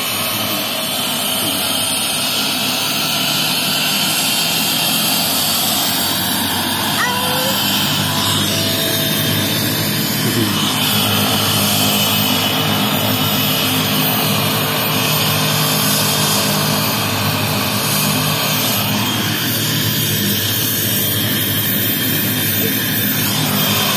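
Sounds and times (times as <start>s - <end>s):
helicopter rotor running: 0.0s - 23.9s.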